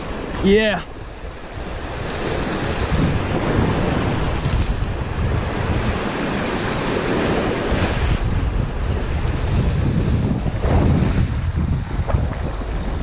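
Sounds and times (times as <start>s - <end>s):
waves washing against rocks: 0.0s - 13.0s
wind buffeting the microphone: 0.0s - 13.0s.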